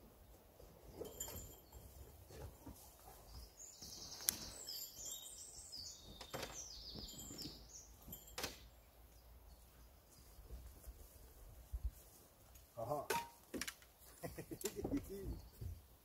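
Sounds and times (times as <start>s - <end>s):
songbird singing: 0.0s - 12.1s, 12.8s - 16.0s.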